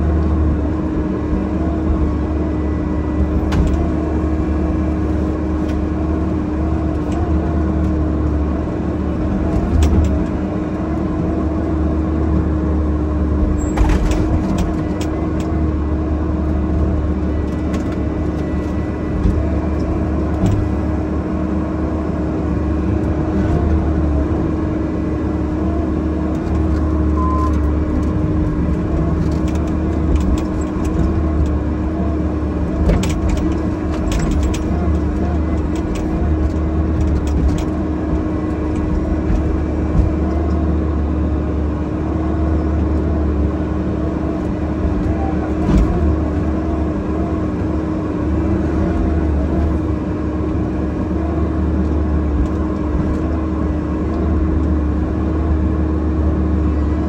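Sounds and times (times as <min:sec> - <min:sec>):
excavator diesel engine humming: 0:00.0 - 0:57.0.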